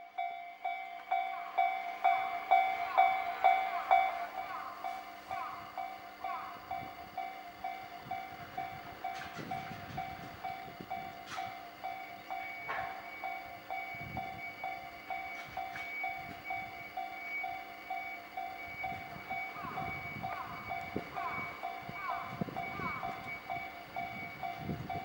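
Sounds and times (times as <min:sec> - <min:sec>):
train rumbling past: 0:00.0 - 0:25.0
level crossing bell dinging: 0:00.2 - 0:25.0.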